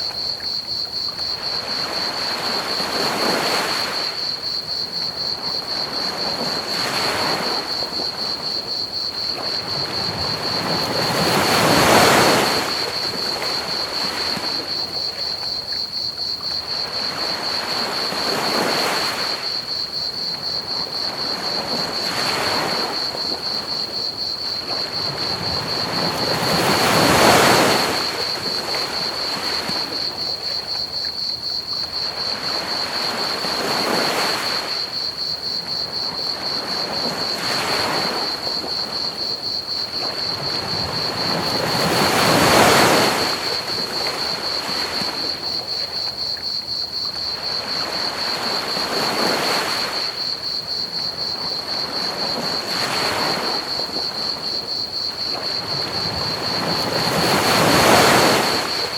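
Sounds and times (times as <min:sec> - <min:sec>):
crickets chirping: 0:00.0 - 0:58.9
ocean waves breaking on beach: 0:01.3 - 0:15.4, 0:16.3 - 0:30.8, 0:31.9 - 0:58.9.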